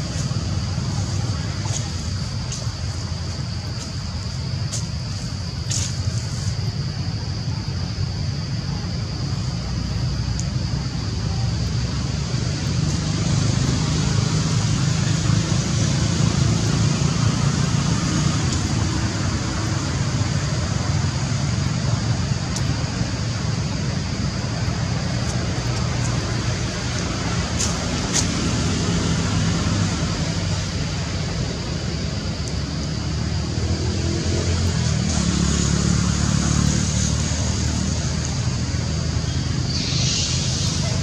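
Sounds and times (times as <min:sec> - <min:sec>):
engine-like rumble: 0:00.0 - 0:41.0
high hiss: 0:00.0 - 0:41.0.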